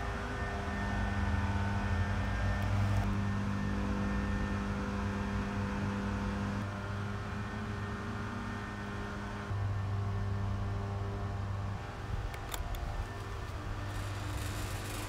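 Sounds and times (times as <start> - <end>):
table fan running: 0.0 - 15.0.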